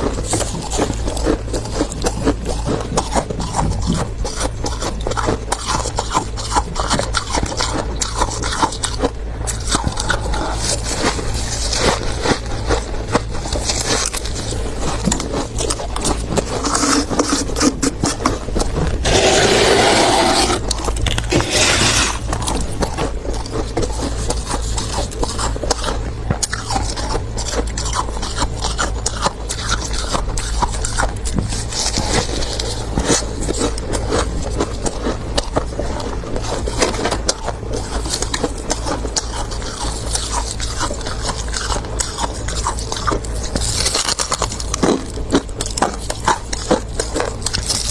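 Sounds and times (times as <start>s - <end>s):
freezer frost being scraped: 0.0s - 47.9s.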